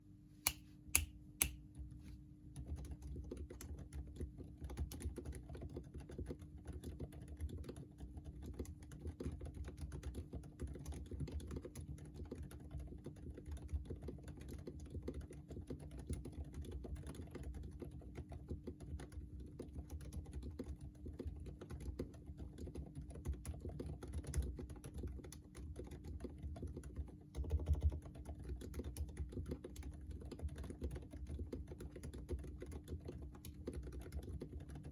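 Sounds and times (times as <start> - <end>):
muffled keyboard typing: 2.5 - 34.9.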